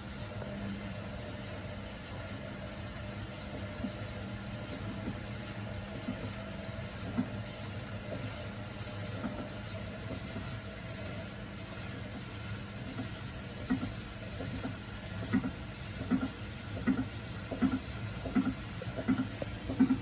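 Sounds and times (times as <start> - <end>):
washing machine spinning hum: 0.0 - 20.0.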